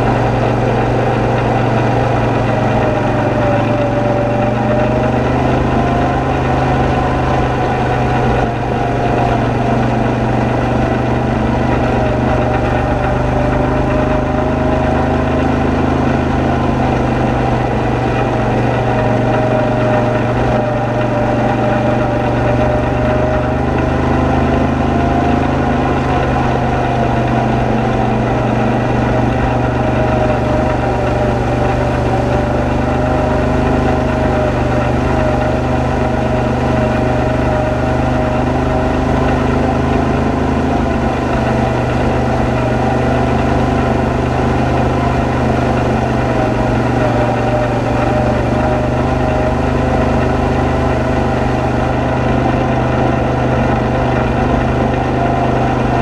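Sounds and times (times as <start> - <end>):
atv engine running: 0.0 - 56.0
engine whine: 0.0 - 56.0.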